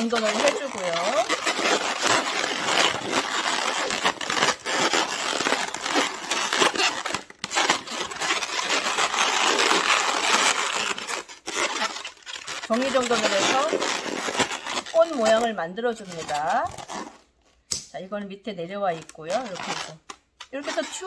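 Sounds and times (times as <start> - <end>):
balloons rubbing and scraping: 0.0 - 21.0.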